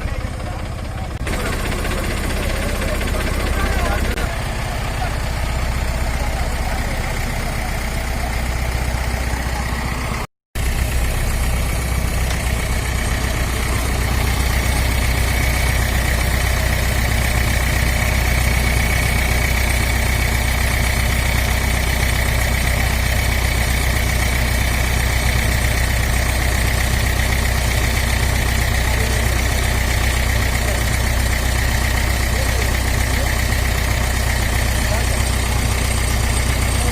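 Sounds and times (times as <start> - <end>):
heavy vehicle engine idling: 0.0 - 36.9.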